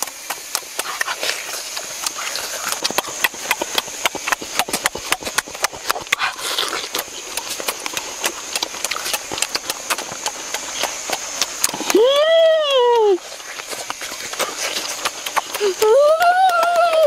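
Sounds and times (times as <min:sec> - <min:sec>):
wet chewing and slurping: 0:00.0 - 0:16.7
steady high hiss: 0:00.0 - 0:17.0.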